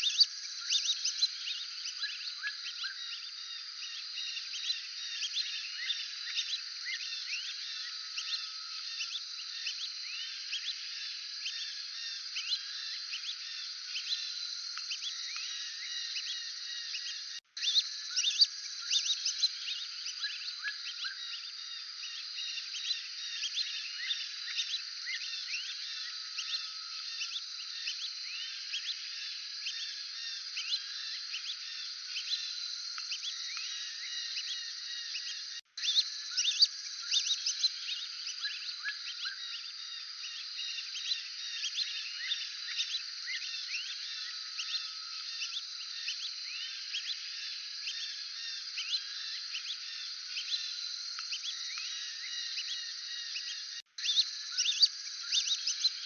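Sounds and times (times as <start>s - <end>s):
ducks whistling calls: 0.0s - 56.0s.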